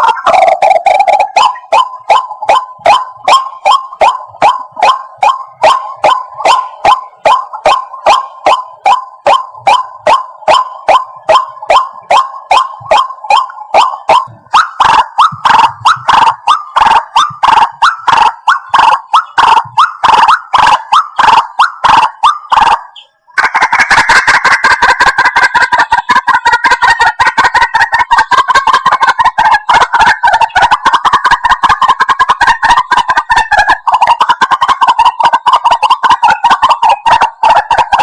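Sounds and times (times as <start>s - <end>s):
waterhen croaking call: 0.0s - 38.0s.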